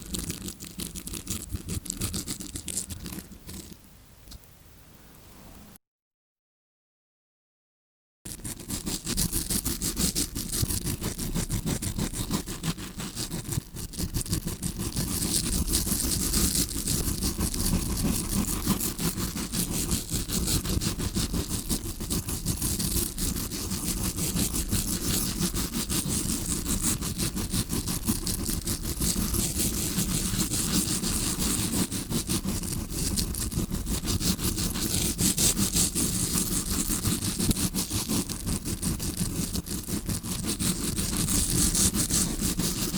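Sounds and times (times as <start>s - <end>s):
brush scratching a microphone: 0.0s - 3.8s, 8.3s - 42.9s.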